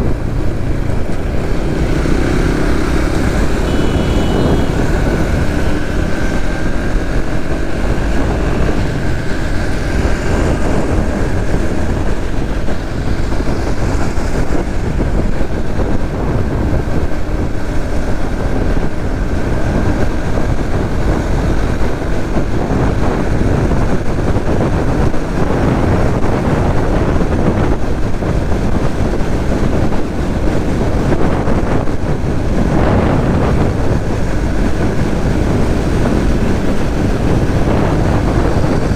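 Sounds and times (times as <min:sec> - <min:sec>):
faint motorcycle engine: 0:00.0 - 0:38.9
wind rushing over microphone: 0:00.0 - 0:38.9.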